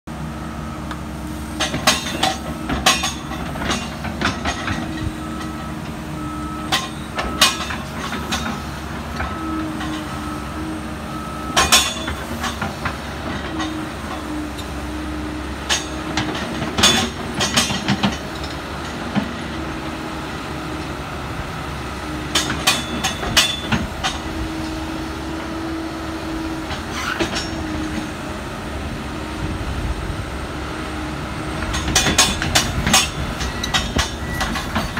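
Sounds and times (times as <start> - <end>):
excavator engine and hydraulics: 0.1 - 34.9
hydraulic whine: 0.5 - 34.9.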